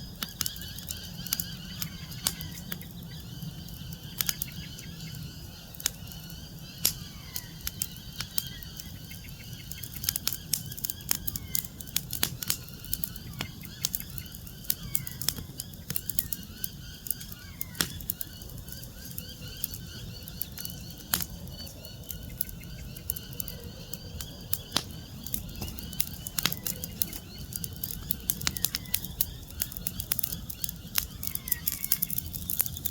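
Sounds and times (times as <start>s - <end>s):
birds chirping: 0.0s - 32.9s
wood fire crackling and popping: 0.0s - 32.9s.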